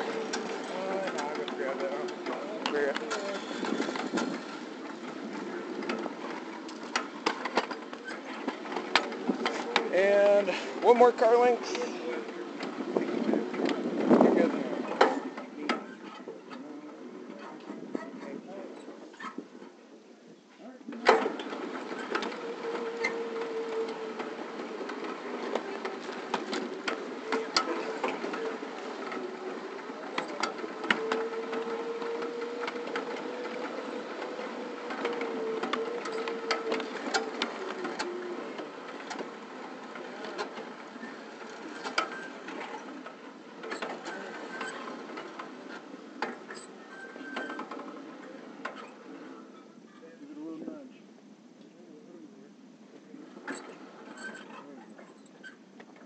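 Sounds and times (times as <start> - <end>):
train wheels clattering over rails: 0.0 - 18.2, 21.0 - 49.1.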